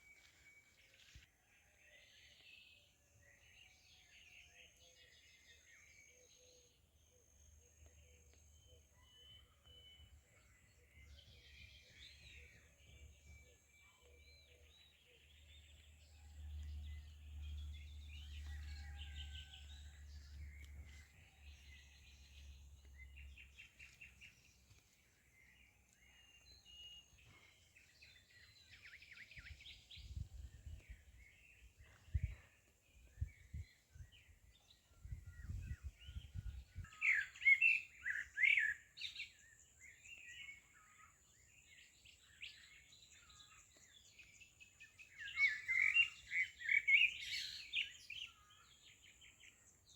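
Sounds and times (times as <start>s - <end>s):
birds chirping and trilling: 1.9s - 49.9s.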